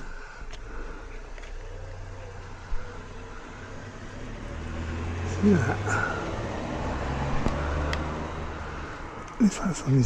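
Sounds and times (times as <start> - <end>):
low engine hum: 0.0 - 10.0.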